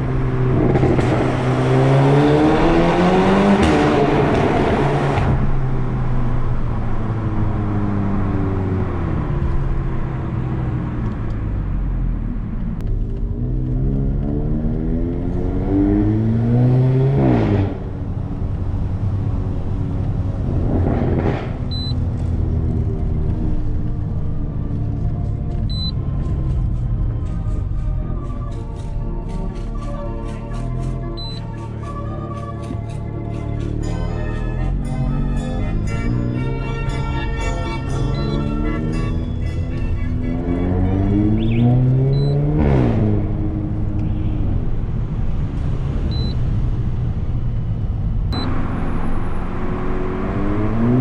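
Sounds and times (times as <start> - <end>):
car engine revving: 0.0 - 32.8, 33.4 - 51.0.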